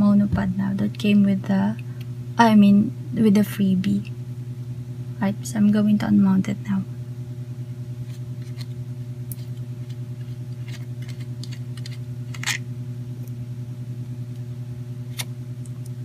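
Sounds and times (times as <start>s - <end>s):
pulsing low hum: 0.0s - 16.0s.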